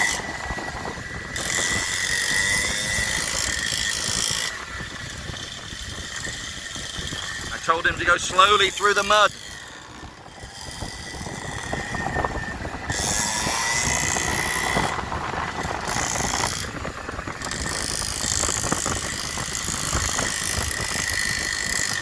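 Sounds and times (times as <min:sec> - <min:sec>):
dirt bike engine whining: 0:00.0 - 0:22.0.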